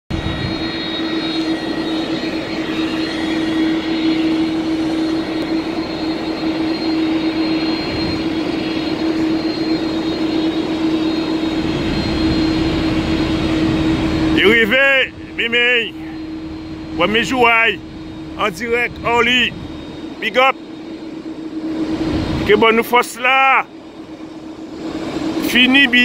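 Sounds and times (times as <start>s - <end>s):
jet engines taxiing: 0.1s - 26.0s.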